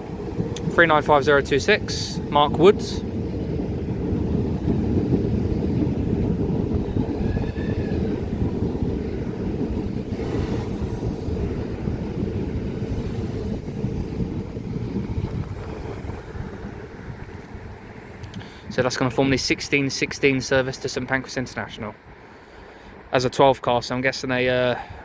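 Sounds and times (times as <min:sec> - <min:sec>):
train rolling past: 0:00.0 - 0:24.8.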